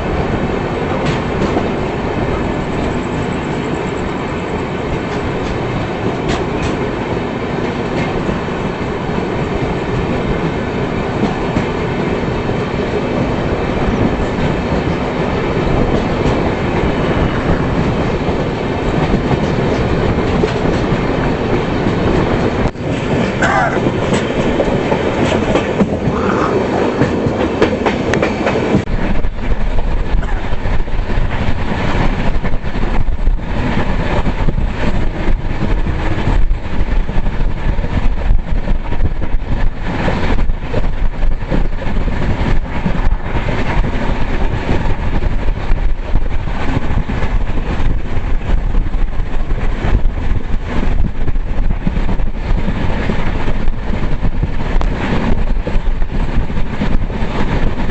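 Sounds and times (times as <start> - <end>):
train rumbling on track: 0.0 - 57.9
train wheels clicking: 0.0 - 57.9.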